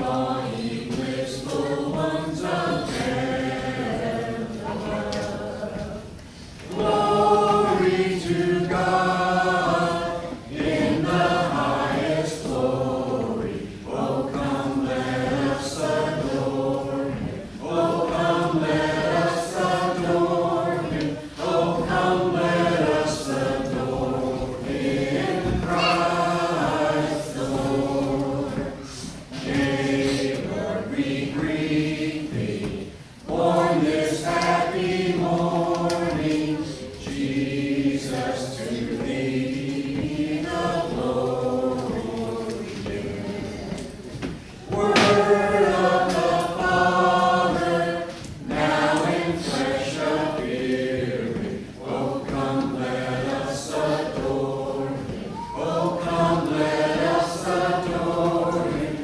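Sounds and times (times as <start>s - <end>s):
congregation singing a carol: 0.0s - 59.0s.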